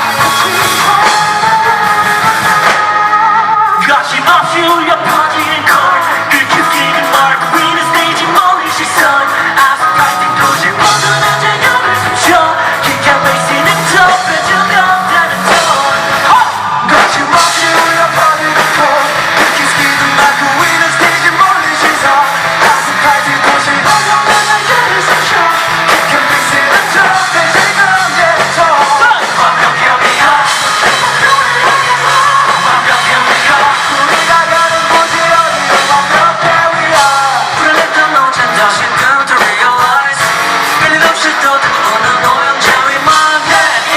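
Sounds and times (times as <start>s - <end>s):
live rock band: 0.0s - 43.9s
man singing: 0.0s - 43.9s.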